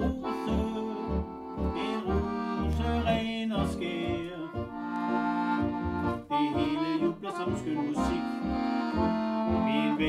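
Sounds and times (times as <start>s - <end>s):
piano accordion melody: 0.0s - 10.0s.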